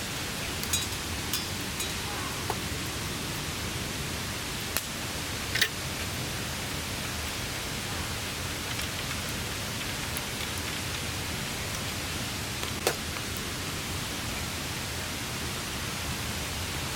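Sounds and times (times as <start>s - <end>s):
rain hissing on a tarp: 0.0s - 16.9s.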